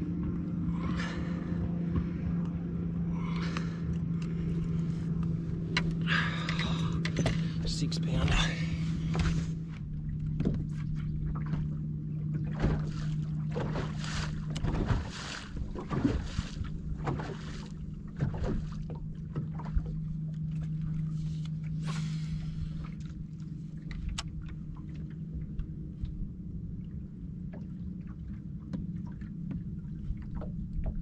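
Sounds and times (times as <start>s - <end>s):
trolling motor humming: 0.0s - 31.0s
water lapping against hull: 0.0s - 31.0s.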